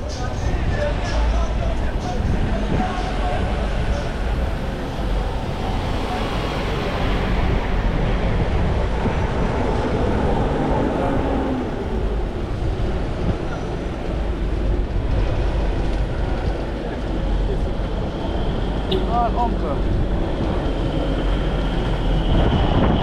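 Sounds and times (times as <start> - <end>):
loud vehicle engine: 0.0 - 23.0
street noise: 0.0 - 23.0.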